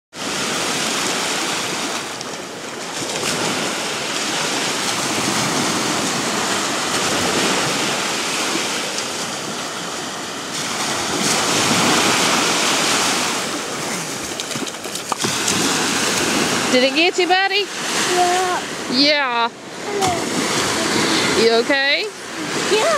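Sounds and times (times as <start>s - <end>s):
small waves breaking on beach: 0.1s - 22.9s.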